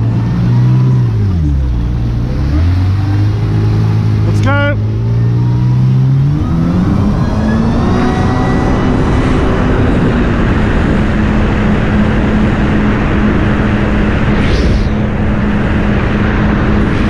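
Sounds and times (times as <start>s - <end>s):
jet ski engine running: 0.0s - 17.0s
rush of wind and water: 0.0s - 17.0s.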